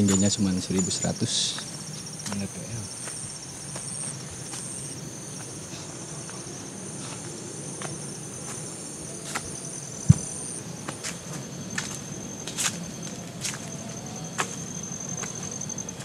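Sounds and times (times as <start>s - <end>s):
footsteps on trail: 0.0s - 16.0s
insects trilling: 0.0s - 16.0s.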